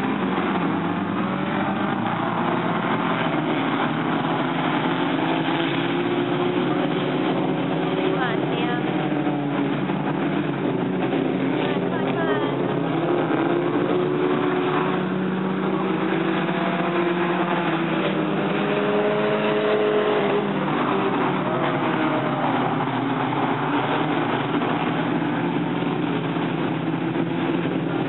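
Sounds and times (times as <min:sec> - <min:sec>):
race car engines revving: 0:00.0 - 0:28.0
steady engine noise: 0:00.0 - 0:28.0.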